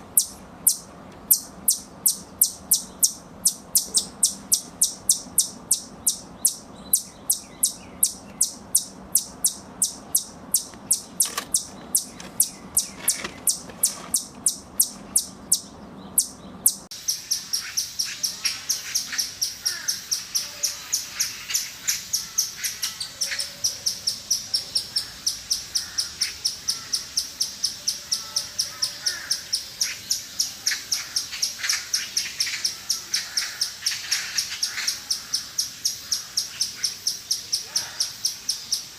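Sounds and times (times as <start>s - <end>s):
squirrel alarm chirps: 0.1s - 38.9s.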